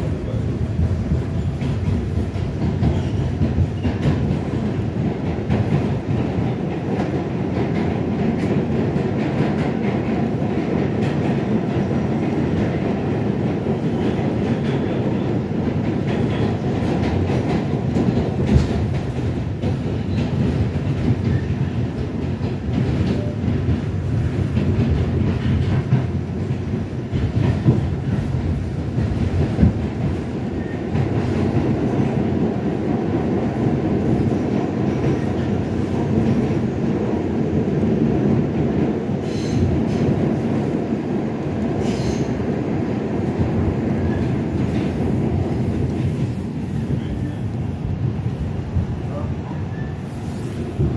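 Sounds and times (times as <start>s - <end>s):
subway train rumbling on rails: 0.0s - 50.9s.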